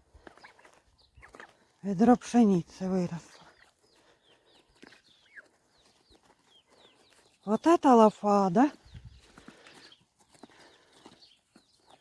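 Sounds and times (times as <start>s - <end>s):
turkey chicks peeping: 0.0s - 12.0s.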